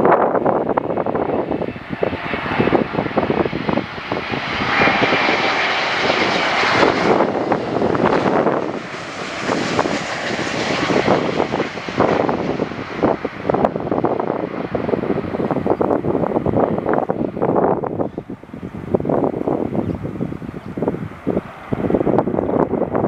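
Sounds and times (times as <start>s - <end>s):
jet engines flying low past: 0.0s - 23.0s
wind buffeting microphone: 0.0s - 23.0s.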